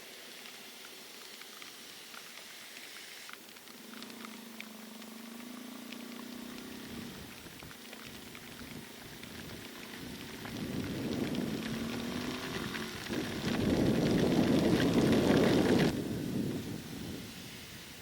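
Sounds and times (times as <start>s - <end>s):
heavy rain on a helmet: 0.0s - 18.0s.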